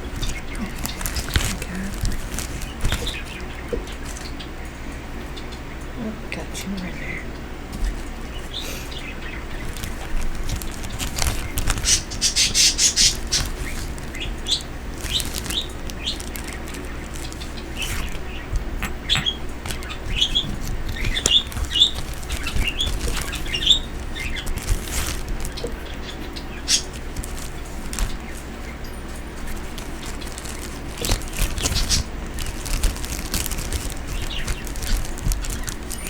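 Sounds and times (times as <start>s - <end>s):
wings flapping: 0.0s - 4.4s, 7.8s - 36.0s
pet birds chirping: 0.0s - 36.0s.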